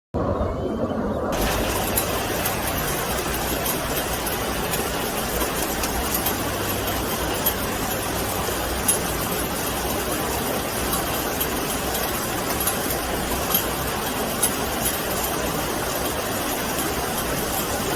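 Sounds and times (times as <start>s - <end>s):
rain hissing: 1.4s - 17.9s
raindrops ticking: 1.4s - 17.9s.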